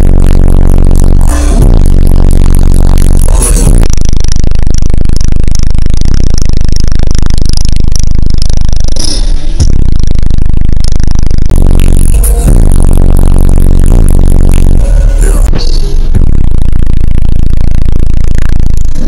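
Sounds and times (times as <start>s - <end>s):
bass-heavy music from car subwoofers: 0.0s - 19.0s.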